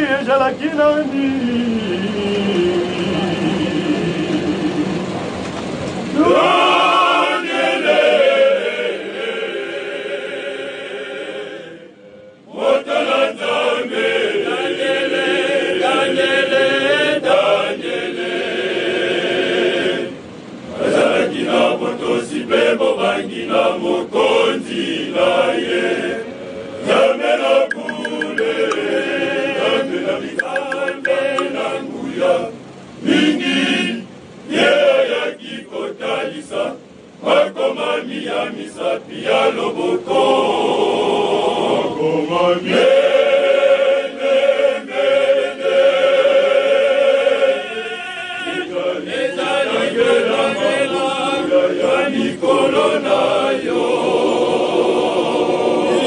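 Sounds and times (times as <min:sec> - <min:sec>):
men's choir singing in harmony: 0:06.1 - 0:56.0.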